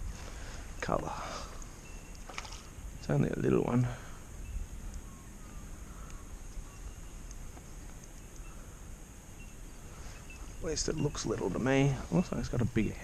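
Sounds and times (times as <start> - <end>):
thin high hiss: 0.0 - 12.6
wind rumbling on microphone: 0.0 - 13.0.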